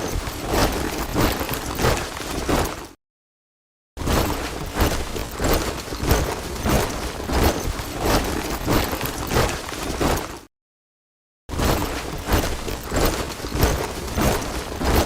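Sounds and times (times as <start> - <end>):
boots marching in step: 0.0 - 3.0, 4.1 - 10.4, 11.6 - 15.0.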